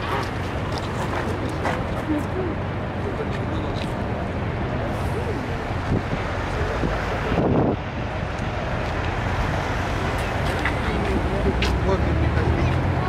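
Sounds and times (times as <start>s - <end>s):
city traffic rumble: 0.0s - 13.0s
wind buffeting microphone: 0.0s - 13.0s.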